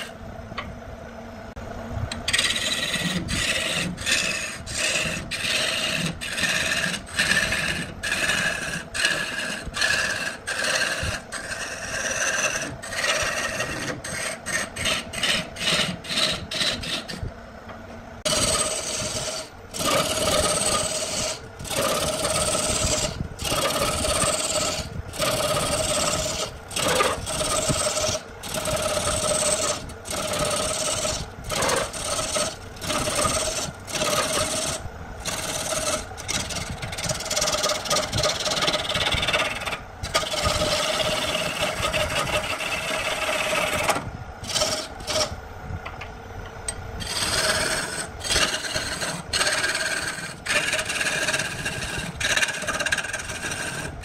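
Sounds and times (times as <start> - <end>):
wood lathe tool scraping wood: 2.1 - 17.3, 18.2 - 45.4, 47.0 - 54.0.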